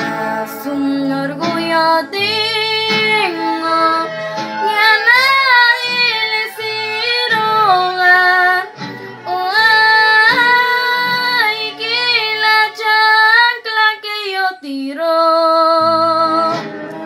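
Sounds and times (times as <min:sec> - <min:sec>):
girl singing with vibrato: 0:00.0 - 0:16.9.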